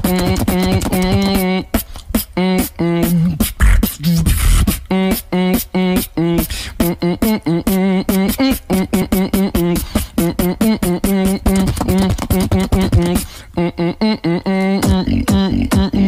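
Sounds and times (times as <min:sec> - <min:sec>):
beatboxing into a microphone: 0:00.0 - 0:16.0.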